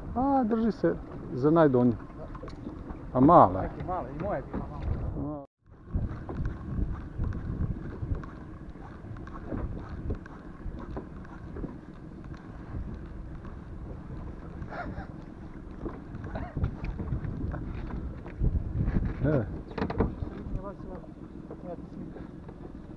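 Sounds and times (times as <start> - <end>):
waves slapping a boat: 0.0 - 22.9
wind buffeting microphone: 0.0 - 22.9.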